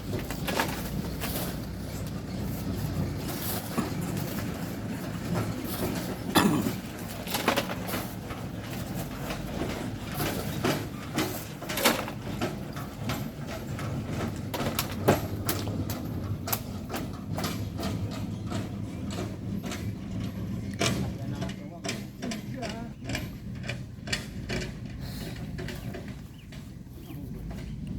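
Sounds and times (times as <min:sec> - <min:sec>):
low engine hum: 0:00.0 - 0:11.1, 0:12.3 - 0:27.9
hand tools knocking and scraping stone: 0:00.0 - 0:26.8.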